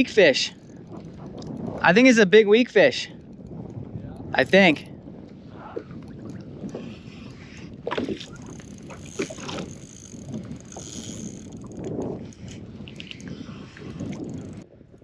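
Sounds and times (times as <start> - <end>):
water slapping kayak hull: 0.0 - 14.6
wind noise on microphone: 0.0 - 15.0.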